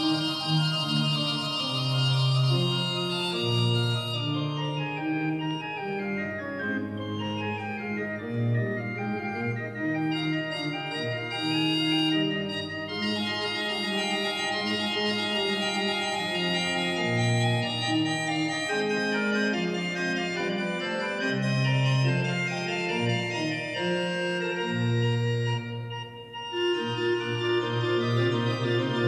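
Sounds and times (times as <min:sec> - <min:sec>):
pipe organ playing chords: 0:00.0 - 0:29.0.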